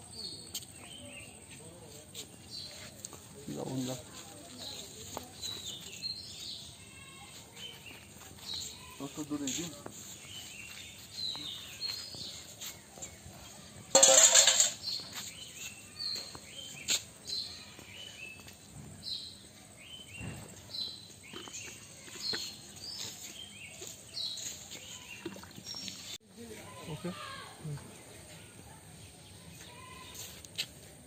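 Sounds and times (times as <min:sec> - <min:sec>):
birds chirping: 0:00.1 - 0:26.2.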